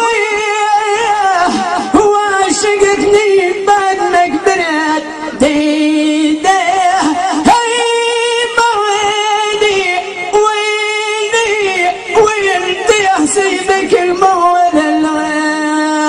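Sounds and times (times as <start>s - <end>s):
man singing high into microphone: 0.0s - 16.0s.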